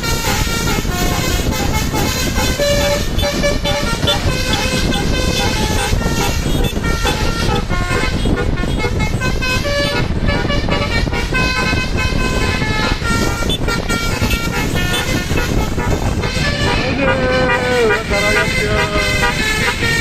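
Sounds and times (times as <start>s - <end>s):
engine and road noise: 0.0s - 20.0s
musical bus horn tune: 0.0s - 20.0s.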